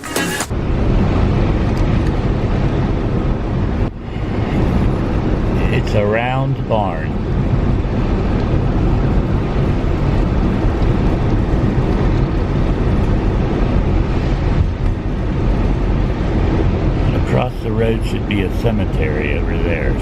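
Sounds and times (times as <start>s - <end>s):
car engine hum: 0.0s - 20.0s.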